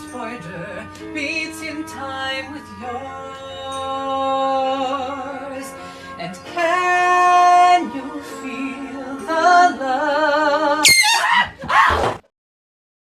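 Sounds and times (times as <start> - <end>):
music with sung vocal: 0.0 - 10.8.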